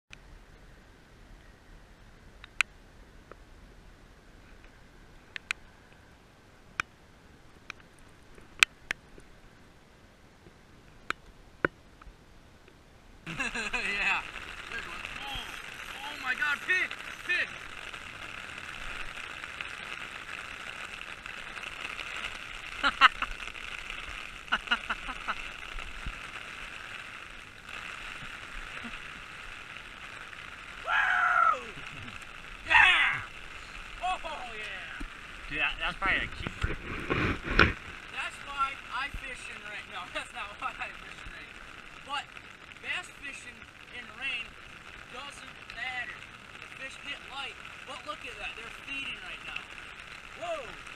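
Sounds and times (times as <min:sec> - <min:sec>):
raindrops ticking on camera housing: 0:04.6 - 0:06.1, 0:06.7 - 0:09.4, 0:10.4 - 0:50.9.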